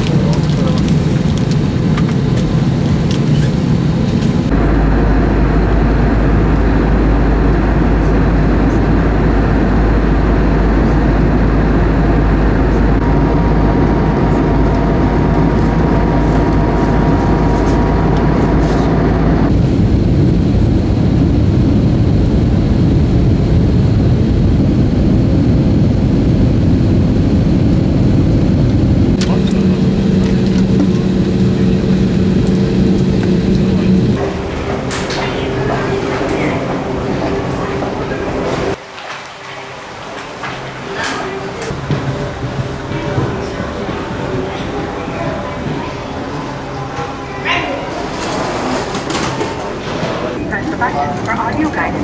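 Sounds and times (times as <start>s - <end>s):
heavy low rumble: 0.0s - 38.8s, 39.6s - 52.0s
airliner cabin noise: 0.0s - 52.0s.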